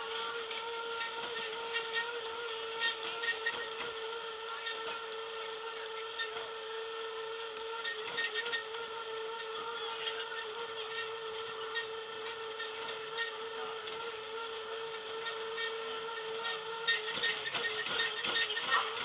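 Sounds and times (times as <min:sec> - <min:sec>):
tram car whine: 0:00.0 - 0:19.0.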